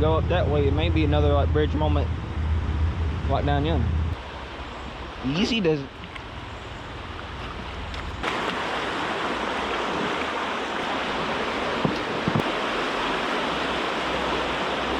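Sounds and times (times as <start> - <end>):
wind rumbling on microphone: 0.0 - 5.2, 5.9 - 14.9
stream water rushing: 0.0 - 14.9.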